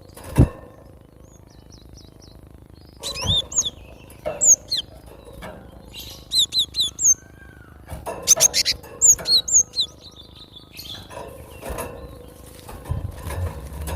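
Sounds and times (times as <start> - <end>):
bird chirping: 0.8 - 12.6.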